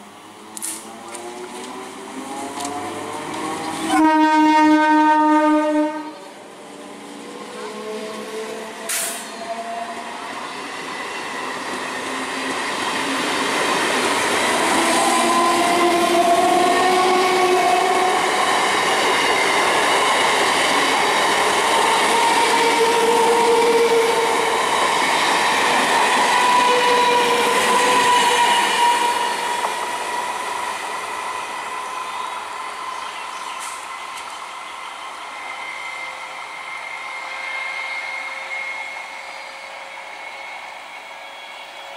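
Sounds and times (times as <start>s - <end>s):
electric train passing: 0.0s - 41.9s
wheels squealing on rails: 6.1s - 41.9s.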